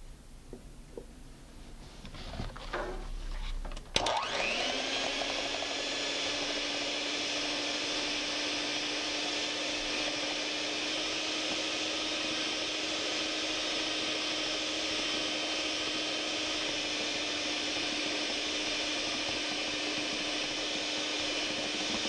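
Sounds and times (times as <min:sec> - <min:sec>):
electric mixer motor whine: 0:03.9 - 0:22.0.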